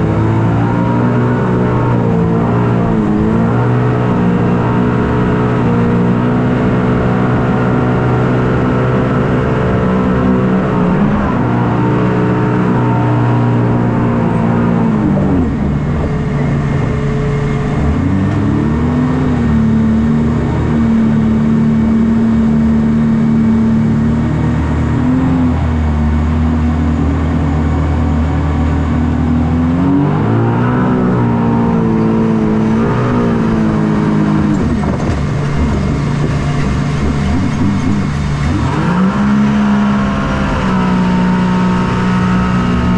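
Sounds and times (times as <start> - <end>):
watercraft engine revving: 0.0 - 42.9.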